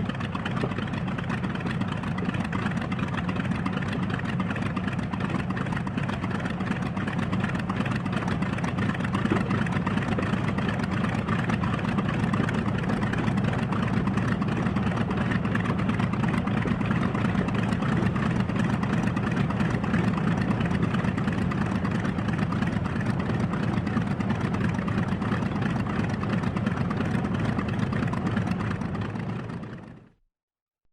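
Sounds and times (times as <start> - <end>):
airplane engine idling: 0.0 - 30.2.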